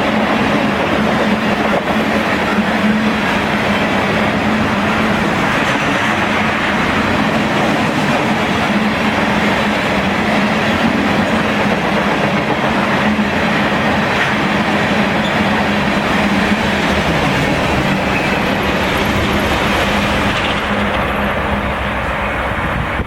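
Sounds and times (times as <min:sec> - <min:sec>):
train wheels rolling on rails: 0:00.0 - 0:23.0.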